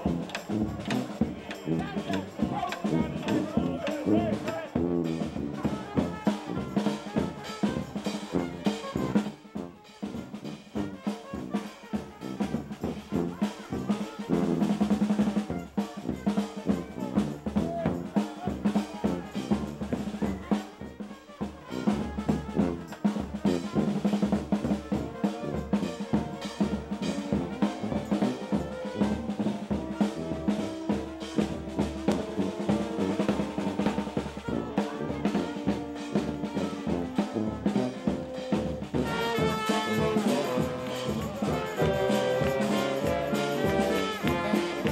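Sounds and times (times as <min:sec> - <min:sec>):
snare and bass drum beat: 0:00.0 - 0:44.9.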